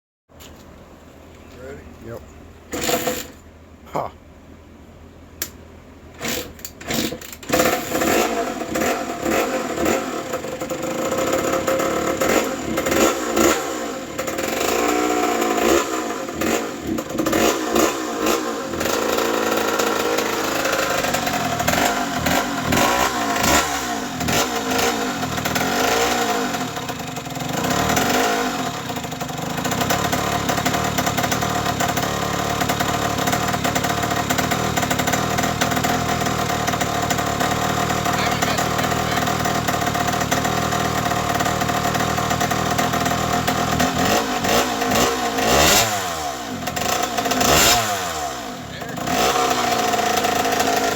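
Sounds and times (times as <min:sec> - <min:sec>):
two-stroke motorcycle engine revving: 0:02.7 - 0:03.4, 0:06.2 - 0:50.9.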